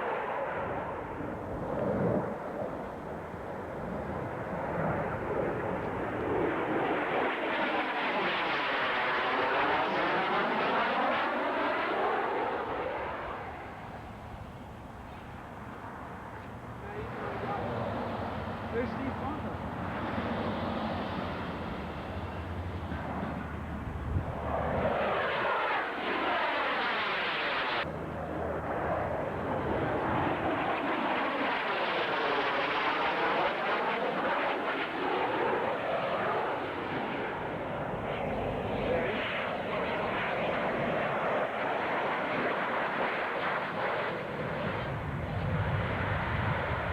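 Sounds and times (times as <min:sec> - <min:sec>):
airplane flying past: 0:00.0 - 0:46.9.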